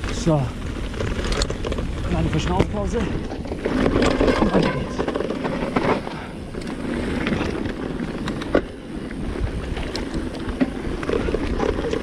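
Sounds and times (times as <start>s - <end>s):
bike tyres rumbling on gravel: 0.0s - 12.0s.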